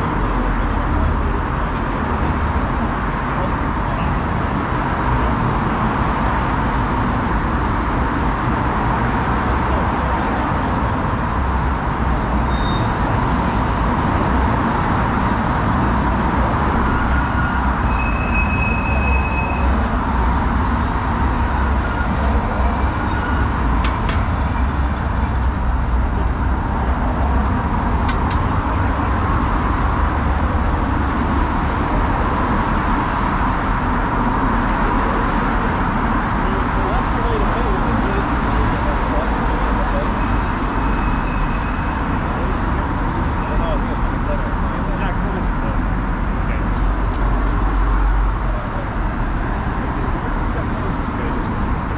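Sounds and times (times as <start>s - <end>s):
moving train rumble: 0.0s - 51.9s.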